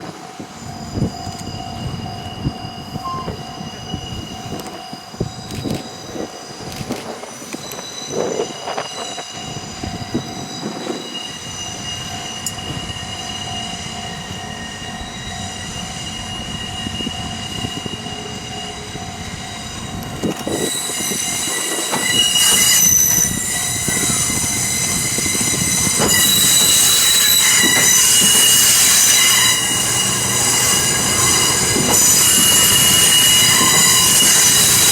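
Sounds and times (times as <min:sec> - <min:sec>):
high-pitched wheel squeal: 0:01.4 - 0:06.6, 0:07.3 - 0:34.9.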